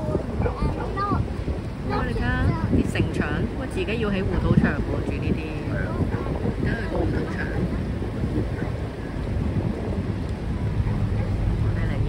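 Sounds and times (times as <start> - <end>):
boat engine rumbling: 0.0 - 12.0
wind buffeting microphone: 0.0 - 12.0.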